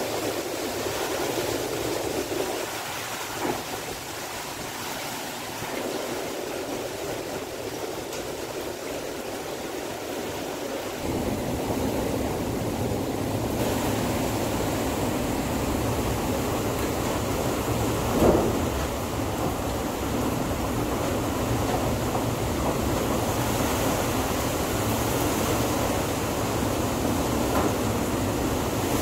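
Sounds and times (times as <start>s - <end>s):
wind and heavy rain: 0.0s - 29.0s.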